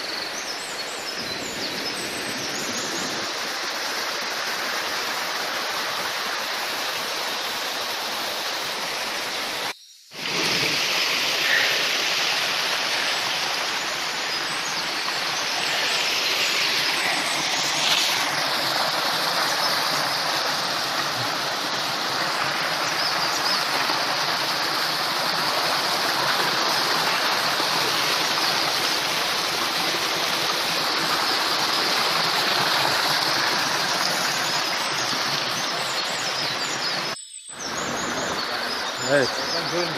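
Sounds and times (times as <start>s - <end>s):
creek rushing over boulders: 0.0s - 39.9s.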